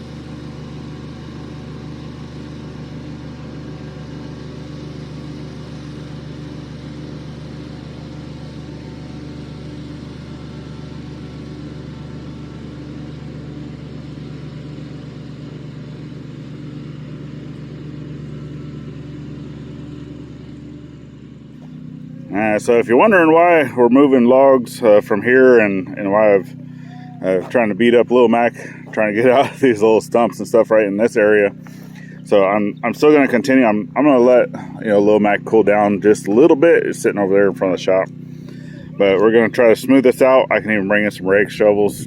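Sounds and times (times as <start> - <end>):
engine running steadily: 0.0 - 42.0.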